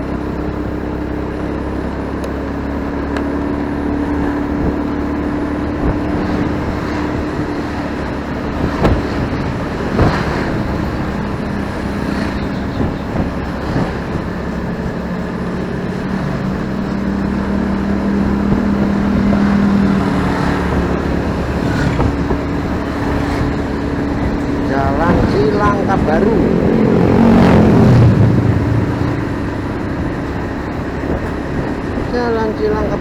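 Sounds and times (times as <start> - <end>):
motorcycle engine running: 0.0 - 33.0
passing traffic: 0.0 - 33.0
road and wind noise: 0.0 - 33.0.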